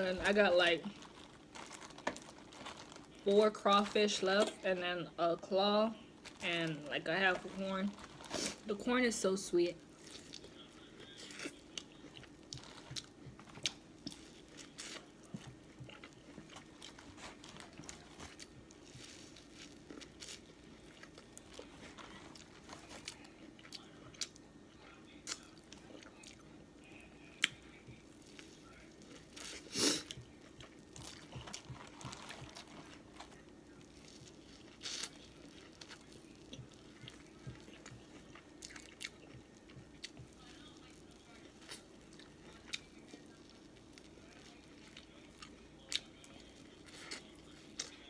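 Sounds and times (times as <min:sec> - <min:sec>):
chewing and crunching: 0:00.0 - 0:04.8, 0:09.8 - 0:48.0
faint steady hum: 0:00.0 - 0:48.0.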